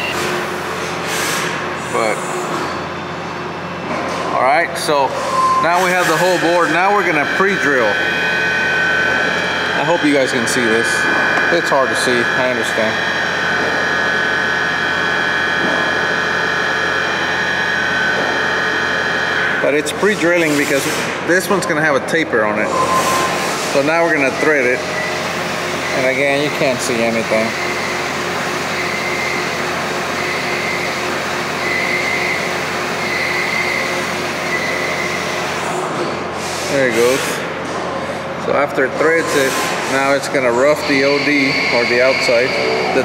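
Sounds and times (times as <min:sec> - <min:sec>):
lathe drilling high whine: 0:04.7 - 0:35.6, 0:39.0 - 0:43.0.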